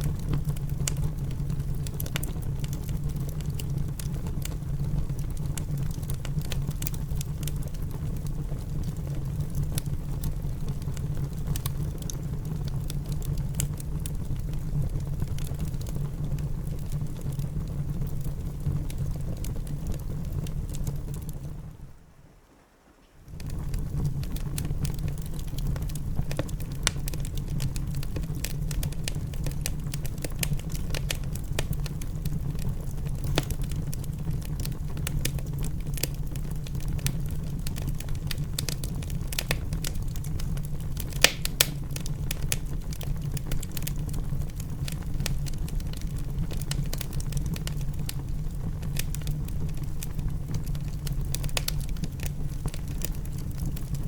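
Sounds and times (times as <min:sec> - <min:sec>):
fire popping and snapping: 0:00.0 - 0:21.9, 0:23.1 - 0:54.0
wood fire crackling: 0:00.0 - 0:54.0.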